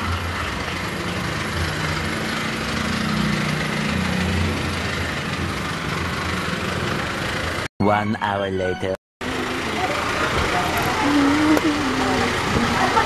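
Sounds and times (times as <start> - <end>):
van engine running: 0.0 - 7.7, 9.2 - 13.0.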